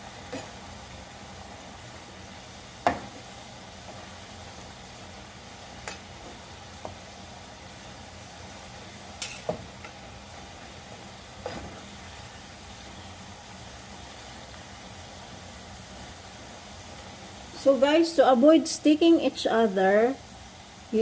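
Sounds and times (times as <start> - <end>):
fries sizzling in hot oil: 0.0 - 21.0.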